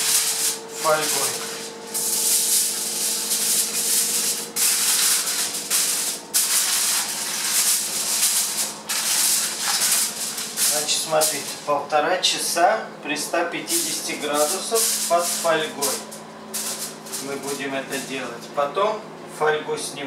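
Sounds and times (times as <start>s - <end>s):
aluminium foil crinkling: 0.0s - 11.7s, 13.7s - 18.3s.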